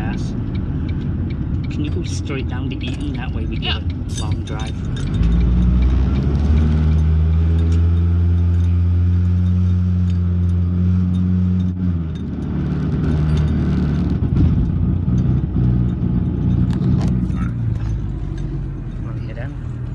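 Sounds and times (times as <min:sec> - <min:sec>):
car droning hum inside cabin: 0:00.0 - 0:19.9
engine and road rumble: 0:00.0 - 0:19.9.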